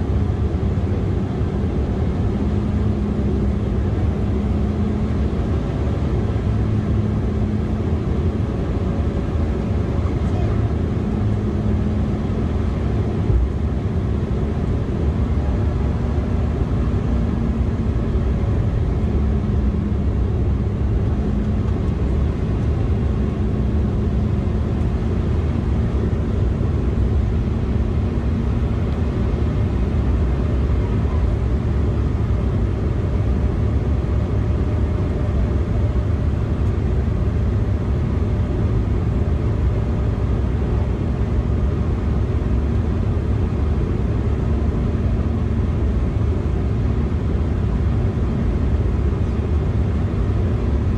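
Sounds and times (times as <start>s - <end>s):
jet engines droning: 0.0s - 50.9s.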